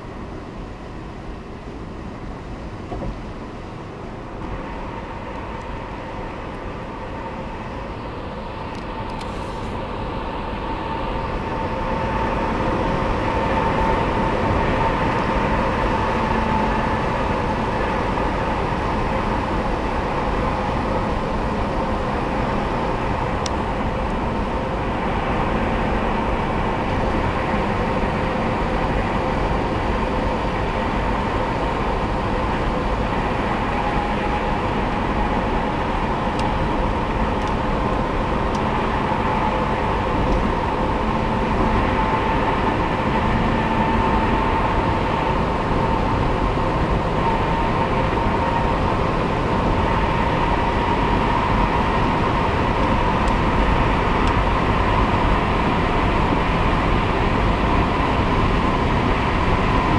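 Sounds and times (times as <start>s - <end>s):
faint steady whine: 0.0s - 59.9s
tyre and engine drone in car: 0.0s - 59.9s.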